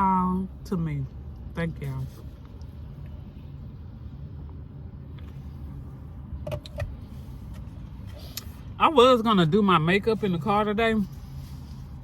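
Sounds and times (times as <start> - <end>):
low rumble inside car cabin: 0.0 - 12.0.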